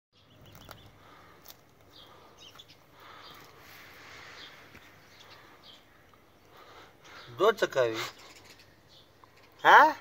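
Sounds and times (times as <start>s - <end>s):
bird chirps: 0.1s - 1.3s, 1.9s - 10.0s.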